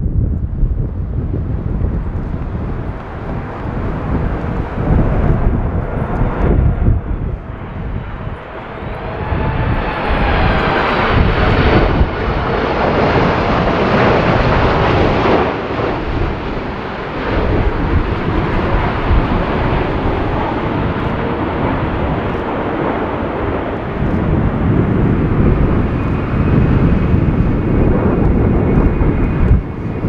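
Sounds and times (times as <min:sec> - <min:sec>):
jet engines on approach: 0:00.0 - 0:30.0
wind rumble on microphone: 0:00.0 - 0:30.0.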